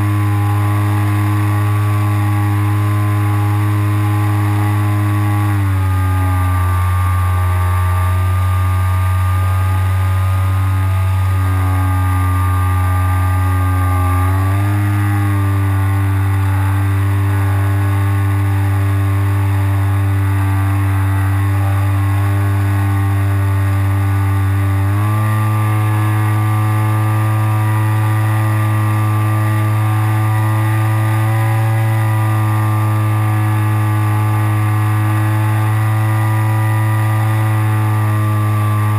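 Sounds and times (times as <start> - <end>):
propeller motor droning hum: 0.0 - 38.9.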